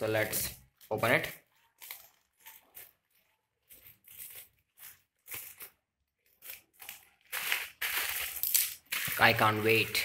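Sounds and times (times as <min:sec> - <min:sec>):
plastic crinkling: 0:00.6 - 0:10.0.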